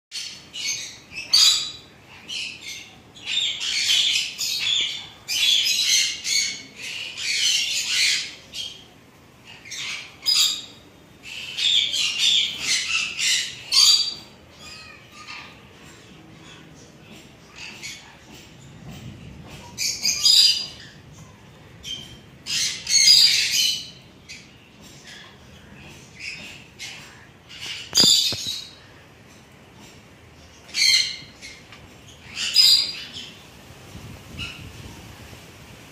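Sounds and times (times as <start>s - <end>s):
birds chirping and squawking: 0.1s - 35.9s.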